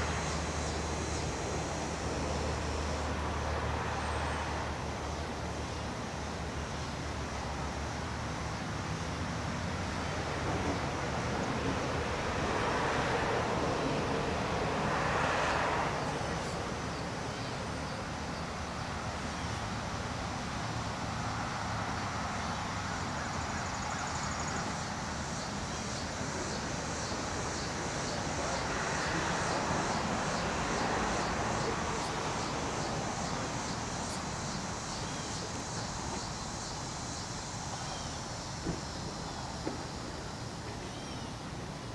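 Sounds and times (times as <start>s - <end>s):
distant train rumble: 0.0s - 41.9s.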